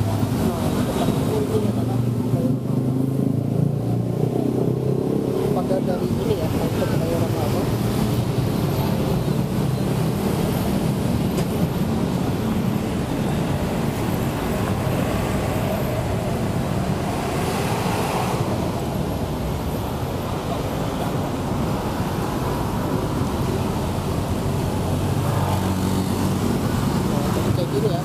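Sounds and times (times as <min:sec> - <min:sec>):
heavy vehicles rumbling: 0:00.0 - 0:28.0.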